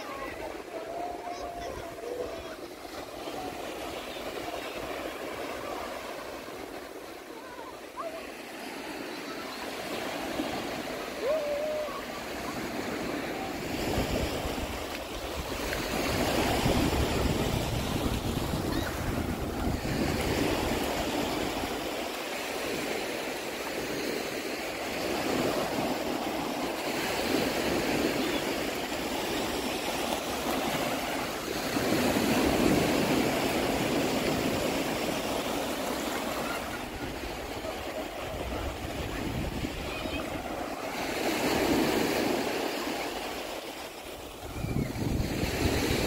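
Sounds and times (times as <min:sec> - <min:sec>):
small waves breaking on shore: 0:00.0 - 0:46.0.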